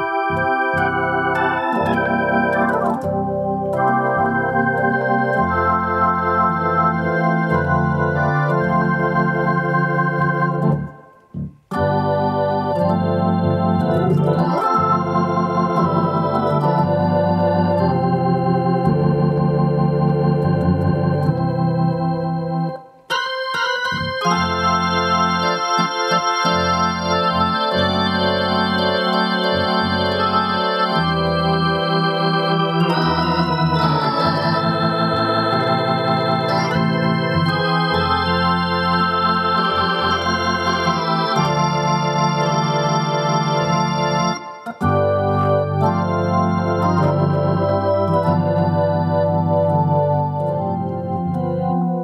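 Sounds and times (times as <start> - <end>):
electronic organ chords and melody: 0.0 - 52.0.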